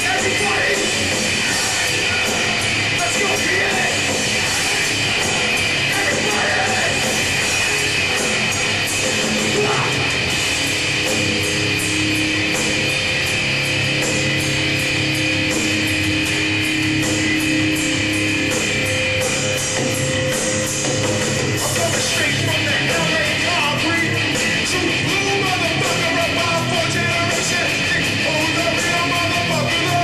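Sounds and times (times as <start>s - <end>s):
distorted guitars and bass: 0.0s - 30.0s
drum kit beat: 0.0s - 30.0s.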